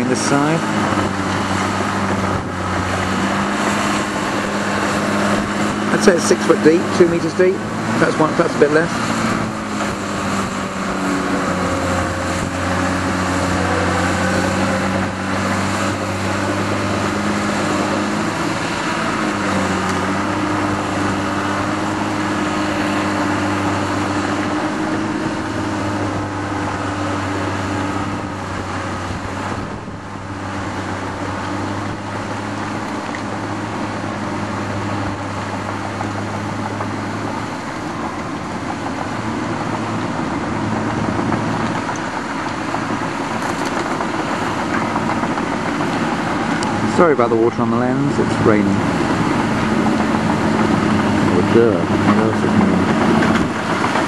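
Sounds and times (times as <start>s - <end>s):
diesel engines running: 0.0s - 54.0s
wind buffeting microphone: 0.0s - 54.0s.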